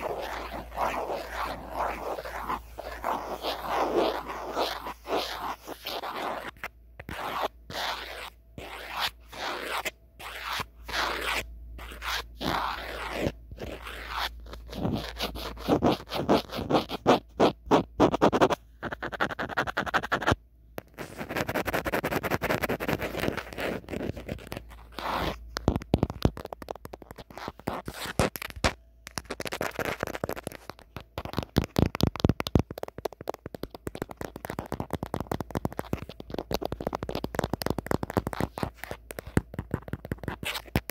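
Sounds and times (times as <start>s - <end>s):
fingernails scratching on phone: 0.0s - 40.9s.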